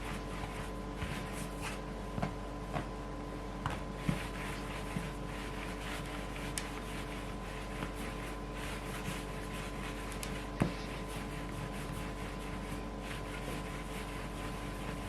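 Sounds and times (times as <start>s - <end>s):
electrical hum and hiss: 0.0s - 15.0s
handling bread dough: 0.0s - 15.0s.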